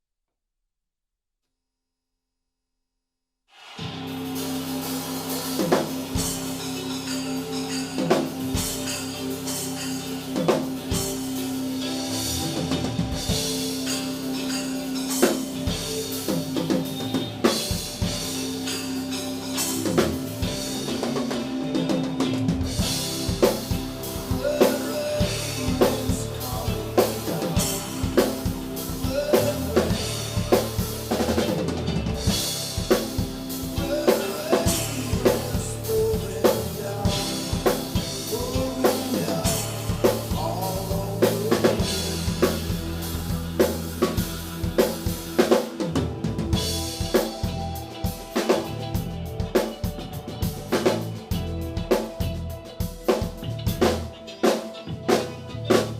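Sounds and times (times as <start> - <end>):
drum kit rock beat: 3.7 - 55.9
keyboard notes: 3.8 - 55.9
sustained bass notes: 3.8 - 55.9.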